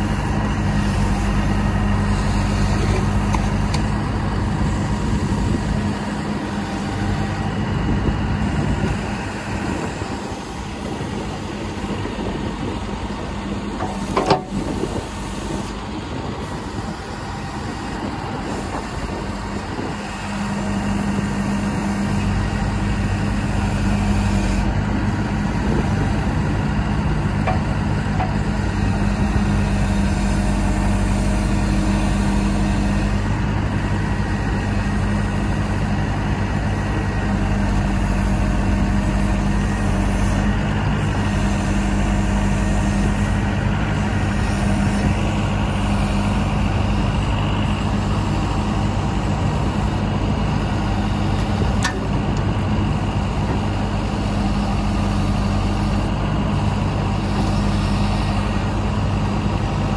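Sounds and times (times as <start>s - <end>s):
diesel engine running: 0.0s - 59.9s
hydraulic boom and bucket: 0.0s - 59.9s.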